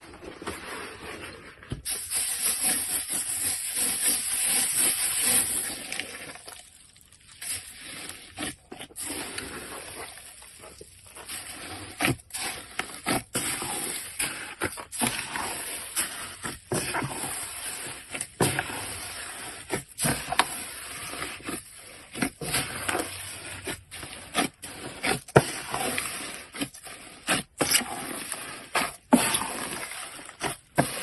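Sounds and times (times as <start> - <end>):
slime squishing: 0.2 - 31.0.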